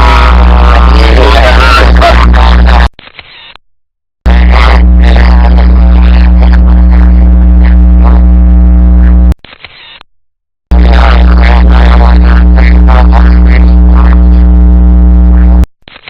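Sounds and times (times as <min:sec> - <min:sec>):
distorted electrical hum and buzz: 0:00.0 - 0:02.9, 0:04.3 - 0:09.4, 0:10.7 - 0:16.0.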